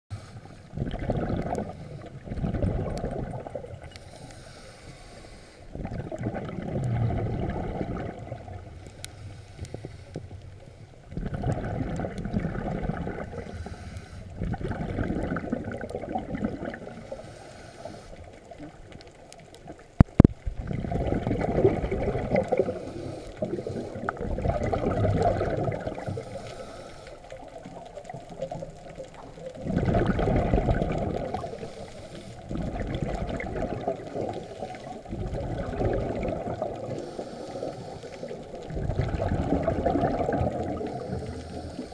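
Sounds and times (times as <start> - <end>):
underwater breath bubbling: 0.1 - 41.9.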